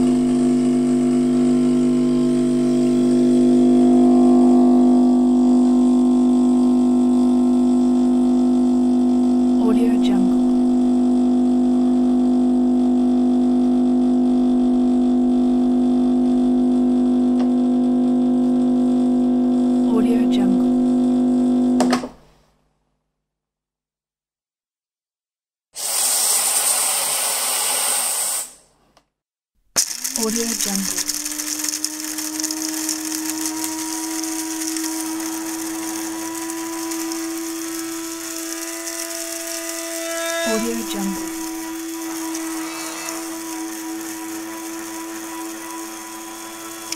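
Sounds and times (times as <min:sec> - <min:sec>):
espresso machine humming: 0:00.0 - 0:21.9, 0:29.8 - 0:46.9.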